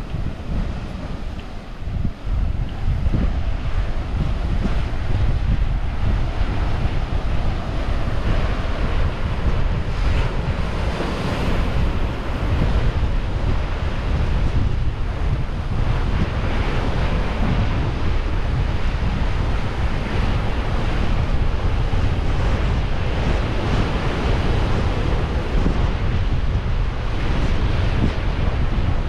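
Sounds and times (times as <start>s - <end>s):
deep rumble: 0.0s - 29.0s
wind buffeting microphone: 0.0s - 29.0s
surf rushing through rocks: 2.8s - 29.0s.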